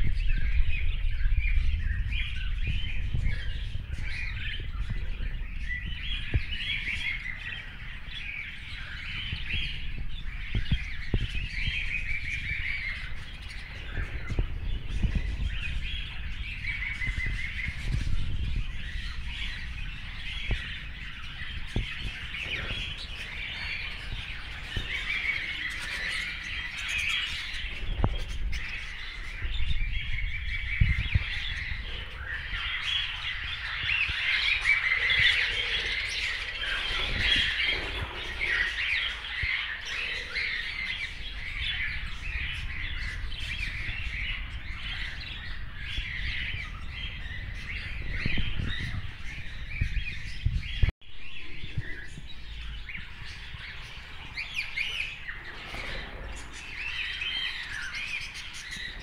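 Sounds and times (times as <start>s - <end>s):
budgerigars chattering: 2.4s - 50.2s, 51.3s - 59.0s.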